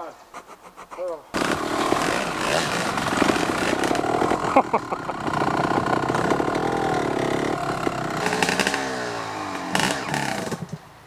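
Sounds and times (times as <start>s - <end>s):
sharp knocks: 0.4s - 10.8s
dirt bike engine revving: 1.3s - 10.8s.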